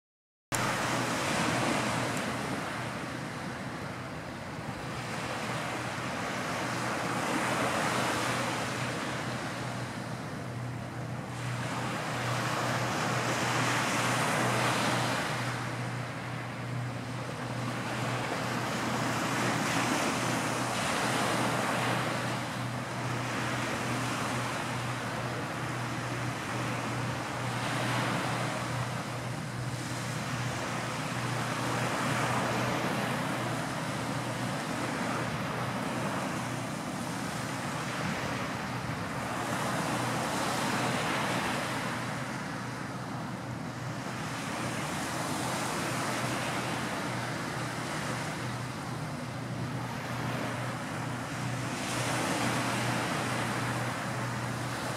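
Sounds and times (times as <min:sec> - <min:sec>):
surf washing on shore: 0:00.6 - 0:54.9.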